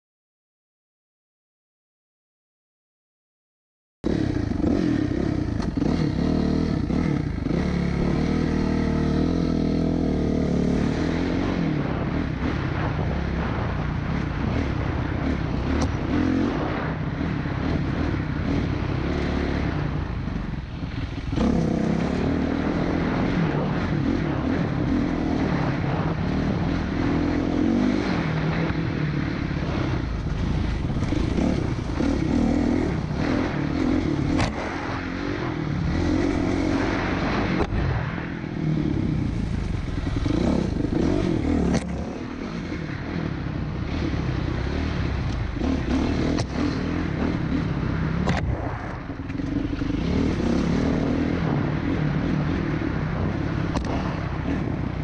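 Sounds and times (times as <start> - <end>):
dirt bike engine revving: 4.0 - 55.0.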